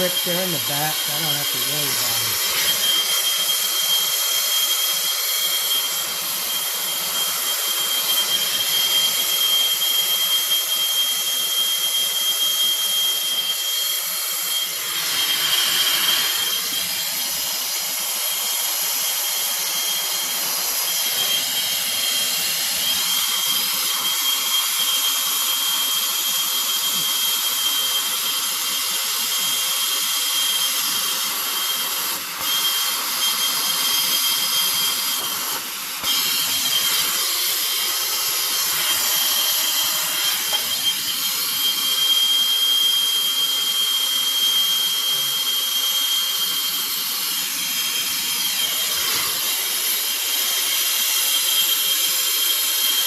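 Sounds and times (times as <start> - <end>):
gas torch hissing: 0.0 - 11.5, 12.6 - 27.4, 28.4 - 42.9, 46.6 - 53.0.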